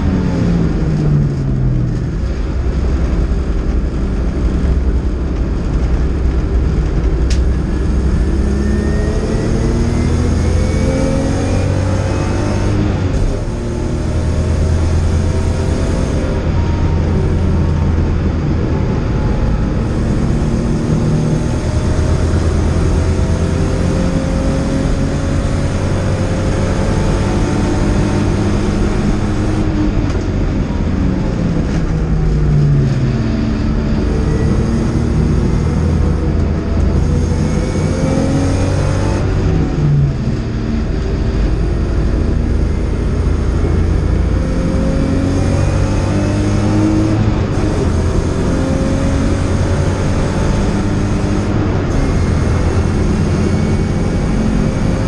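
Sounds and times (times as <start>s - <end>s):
racing car engine accelerating: 0.0s - 55.0s
road and wind noise: 0.0s - 55.0s.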